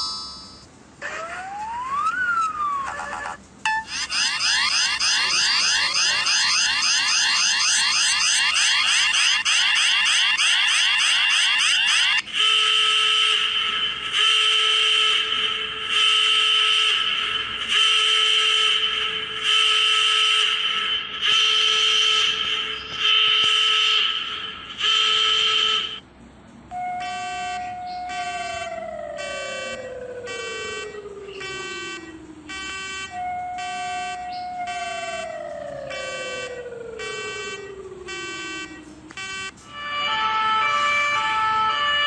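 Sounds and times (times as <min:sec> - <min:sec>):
falling siren tone: 0:01.0 - 0:26.1, 0:26.7 - 0:42.0
electronic alarm horn blasts: 0:03.3 - 0:26.1, 0:26.7 - 0:42.0.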